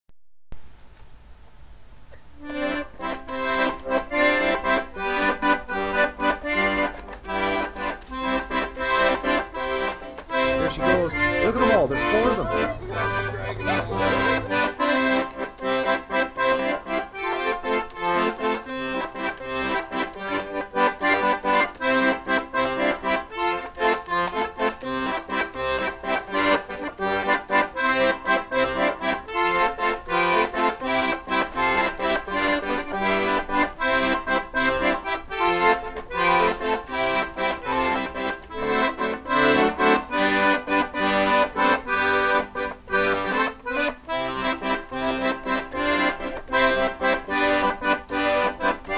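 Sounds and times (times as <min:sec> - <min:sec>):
instrumental music with quick beat: 0:02.4 - 0:48.9.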